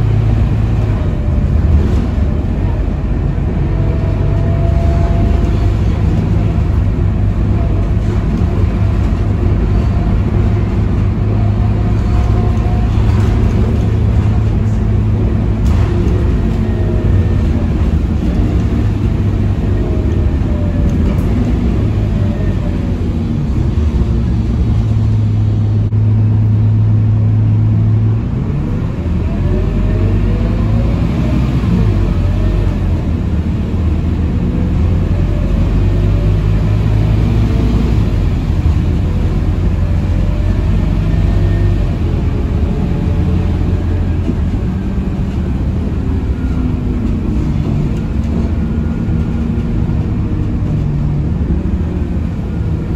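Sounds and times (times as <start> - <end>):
bus engine drone: 0.0 - 52.9
road and tyre noise: 0.0 - 52.9.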